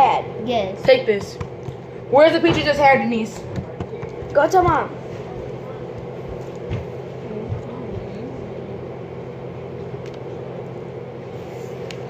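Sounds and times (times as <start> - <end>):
low machine-like hum: 0.0 - 12.0.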